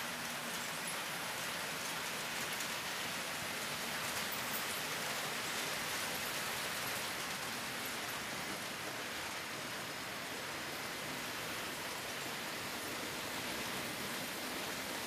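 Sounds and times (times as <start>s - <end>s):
model trains hissing: 0.0s - 15.0s.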